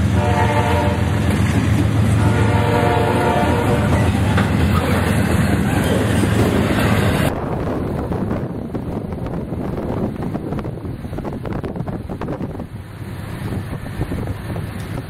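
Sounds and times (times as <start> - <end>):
freight train cars rolling past: 0.0 - 15.0
wind buffeting microphone: 0.8 - 15.0.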